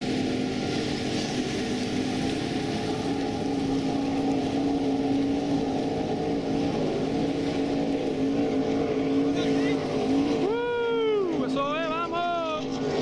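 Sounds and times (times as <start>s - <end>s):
powerboat engines droning: 0.0s - 13.0s.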